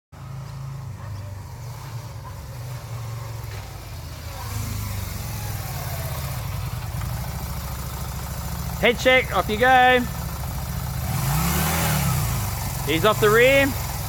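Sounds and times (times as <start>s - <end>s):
motorcycle engine idling: 0.2s - 14.0s.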